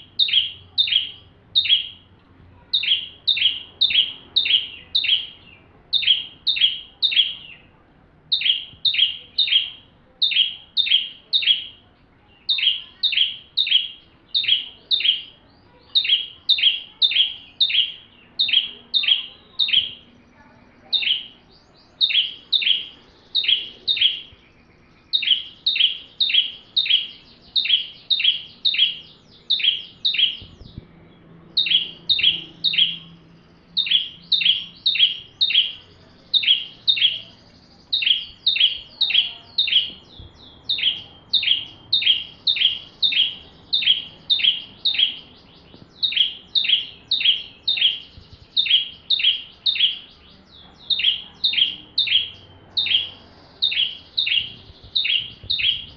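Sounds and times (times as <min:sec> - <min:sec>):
bird singing high sharp notes: 0:00.0 - 0:55.9.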